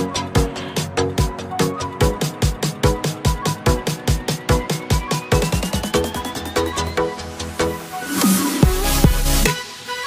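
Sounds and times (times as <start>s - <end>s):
electronic dance music beat: 0.0s - 10.0s.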